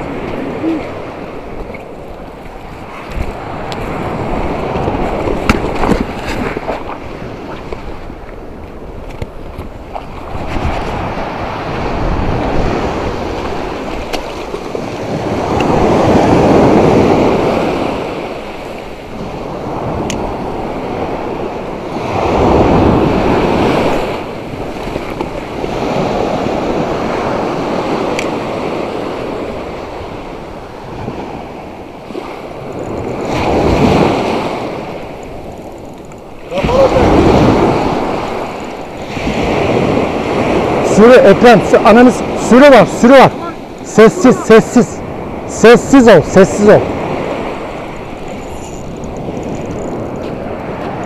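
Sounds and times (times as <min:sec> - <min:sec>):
surf breaking on shore: 0:00.0 - 0:35.6, 0:36.2 - 0:51.0.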